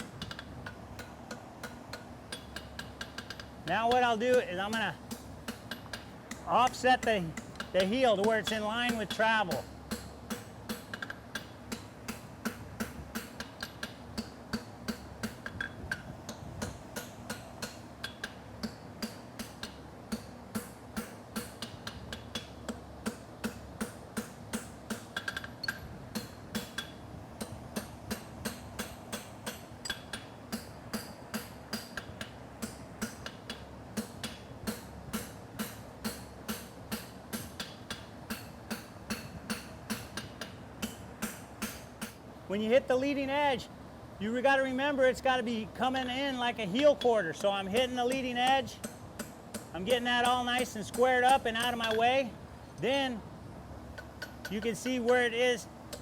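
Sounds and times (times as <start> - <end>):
hammer striking metal on anvil: 0.0 - 42.2, 47.0 - 52.1, 54.0 - 55.3.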